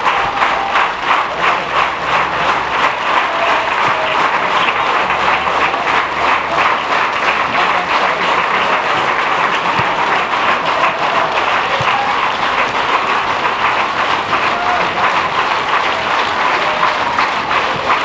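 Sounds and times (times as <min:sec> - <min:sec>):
crowd clapping and cheering: 0:00.0 - 0:18.0.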